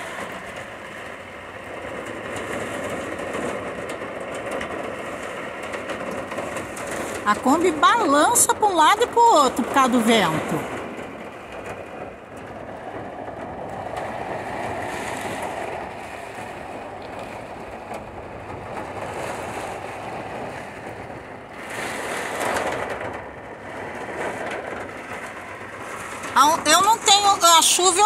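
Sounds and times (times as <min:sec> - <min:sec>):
gusting wind: 0:00.0 - 0:28.0
heavy rain on metal van: 0:00.0 - 0:28.0.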